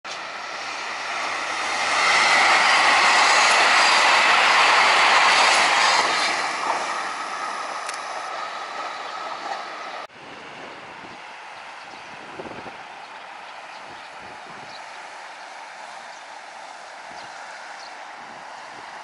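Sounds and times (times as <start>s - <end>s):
train wheels rumbling on rails: 0.1s - 19.0s.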